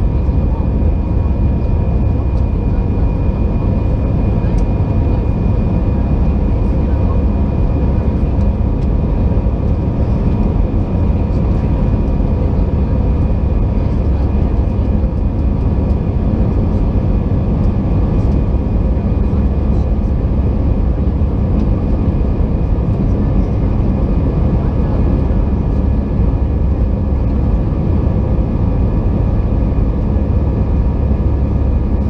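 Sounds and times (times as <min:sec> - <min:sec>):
engine fan whine: 0:00.0 - 0:32.0
jet engine rumble in cabin: 0:00.0 - 0:32.0.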